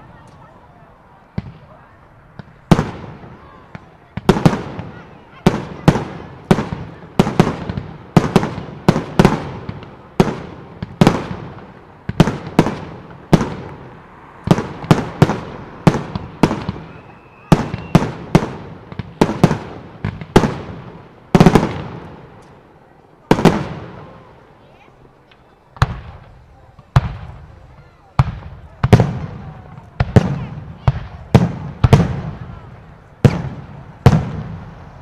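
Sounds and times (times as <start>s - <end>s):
fireworks bursting with bangs: 1.2s - 24.5s, 25.2s - 35.0s.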